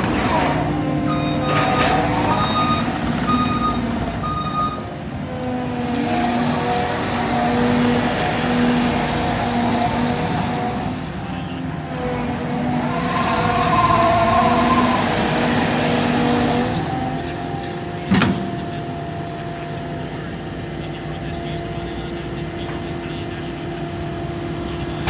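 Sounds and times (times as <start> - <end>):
diesel engine machine hum: 0.0 - 25.0.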